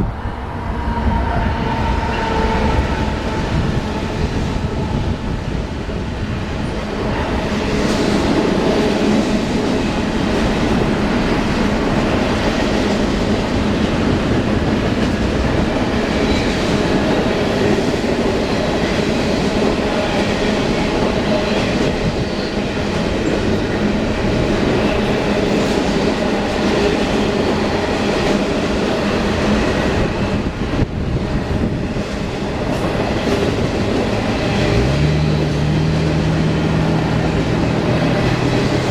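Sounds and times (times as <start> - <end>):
train wheels on rail: 0.0 - 38.9.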